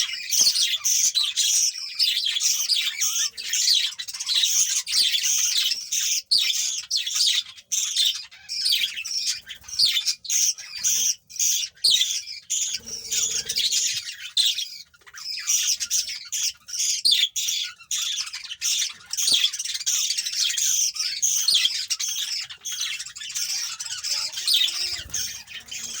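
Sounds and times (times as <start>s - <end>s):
budgerigars chirping and squawking: 0.0s - 26.0s.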